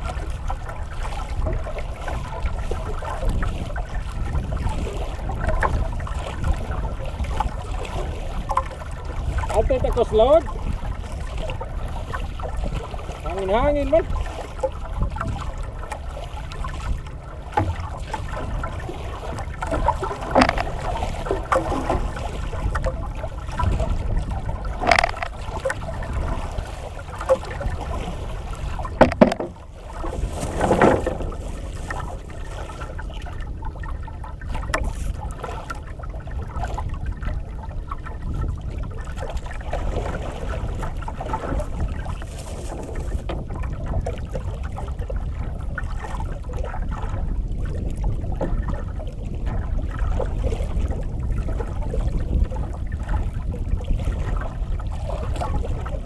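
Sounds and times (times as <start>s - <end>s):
water lapping against boat hull: 0.0s - 56.0s
water splashes: 0.0s - 56.0s
wind buffeting microphone: 0.0s - 56.0s.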